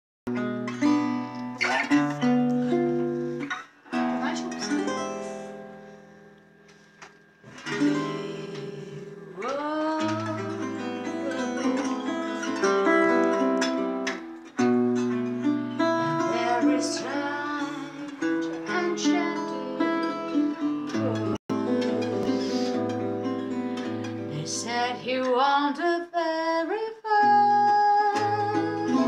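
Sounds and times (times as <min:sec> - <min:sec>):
acoustic guitar playing: 0:00.3 - 0:25.9, 0:27.2 - 0:29.0.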